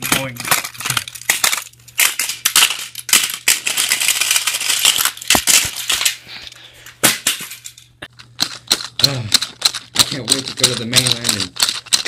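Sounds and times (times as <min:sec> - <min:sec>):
plastic toys rattling on plastic track: 0:00.0 - 0:06.1, 0:07.6 - 0:12.0.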